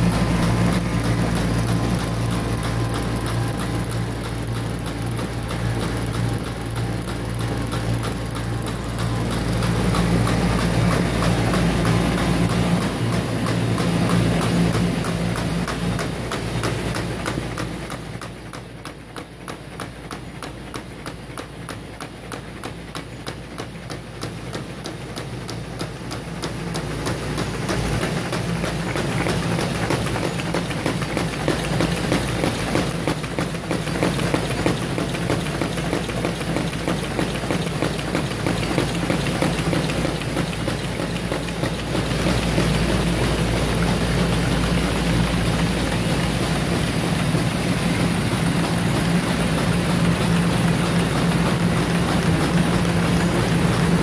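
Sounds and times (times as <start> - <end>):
machine humming: 0.0 - 17.2, 26.6 - 54.0
fast regular belt clatter: 0.0 - 54.0.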